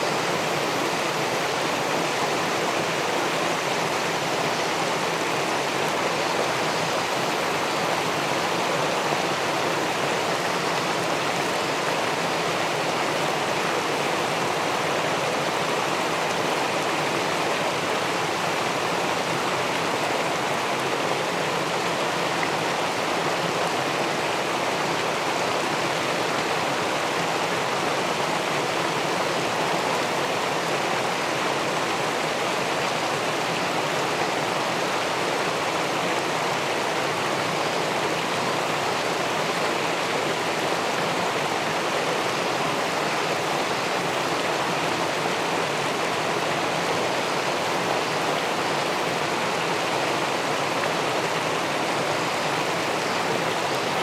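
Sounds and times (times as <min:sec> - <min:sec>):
river water pouring over a weir: 0:00.0 - 0:54.0.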